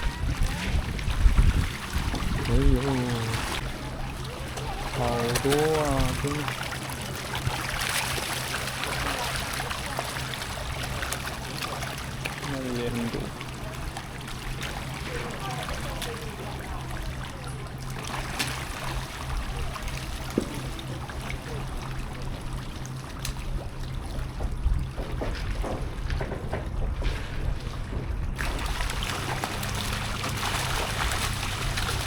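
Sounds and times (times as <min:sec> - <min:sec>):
river water trickling: 0:00.0 - 0:25.8, 0:28.3 - 0:32.0
small water splashes: 0:00.0 - 0:26.1, 0:27.1 - 0:32.0.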